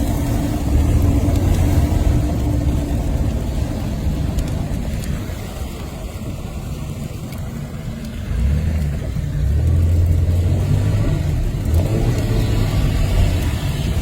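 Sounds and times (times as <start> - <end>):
vehicle engine accelerating: 0.0 - 5.8, 7.1 - 14.0.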